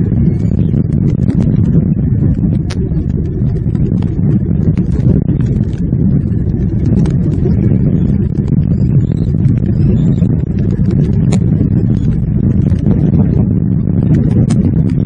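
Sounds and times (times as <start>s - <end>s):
rain drop ticks: 0.0s - 15.0s.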